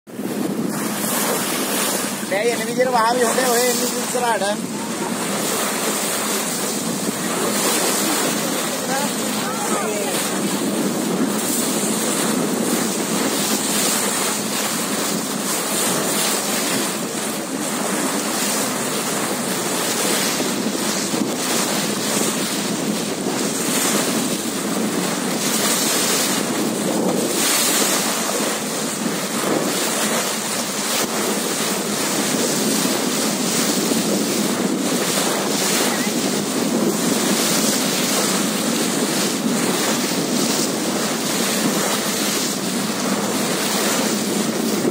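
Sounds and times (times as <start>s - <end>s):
choppy sea water: 0.1s - 44.9s
wind buffeting microphone: 0.1s - 44.9s.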